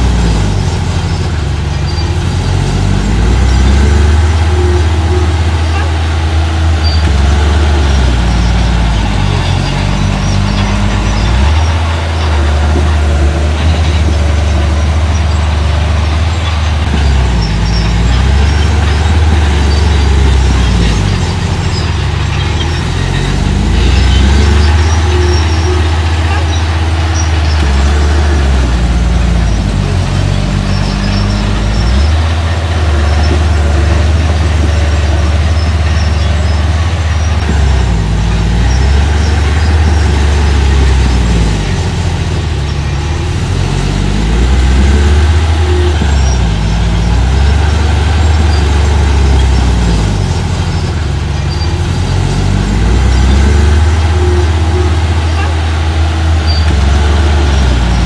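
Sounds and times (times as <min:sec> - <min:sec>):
construction machine engine running: 0:00.0 - 0:58.0.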